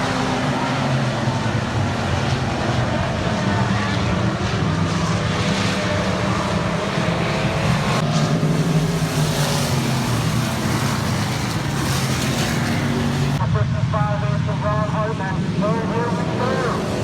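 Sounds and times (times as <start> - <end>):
racing car engines: 0.0 - 13.5, 14.2 - 17.0.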